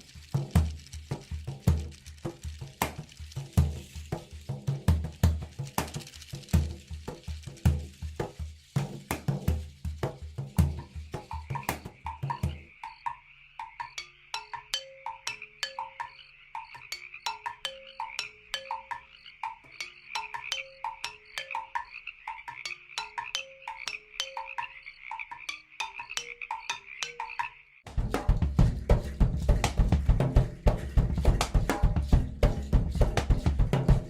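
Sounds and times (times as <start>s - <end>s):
frogs croaking: 0.0s - 34.0s.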